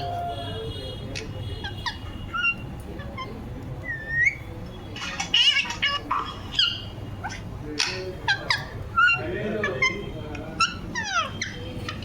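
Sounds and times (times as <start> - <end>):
parrot chirps and squawks: 1.6 - 12.0.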